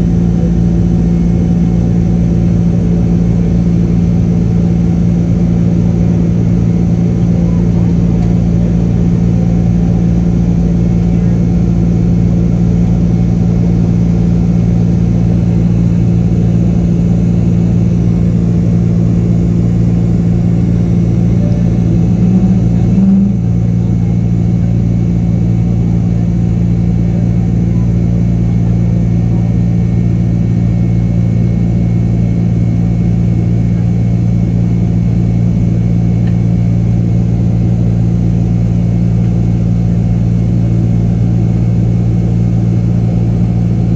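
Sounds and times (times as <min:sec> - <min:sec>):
jet engines droning in cabin: 0:00.0 - 0:43.9.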